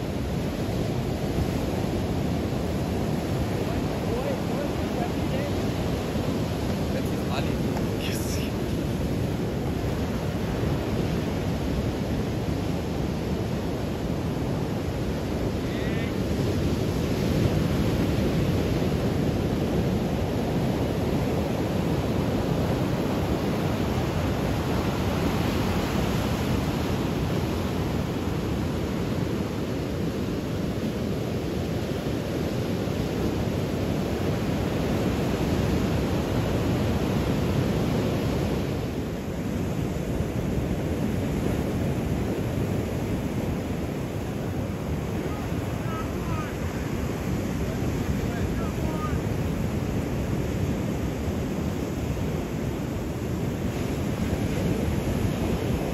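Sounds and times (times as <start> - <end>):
sea surf breaking on beach: 0.0 - 55.9
wind on microphone: 0.0 - 55.9.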